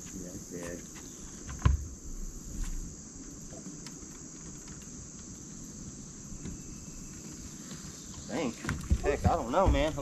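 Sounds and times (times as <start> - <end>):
shrill insect chorus: 0.0 - 10.0.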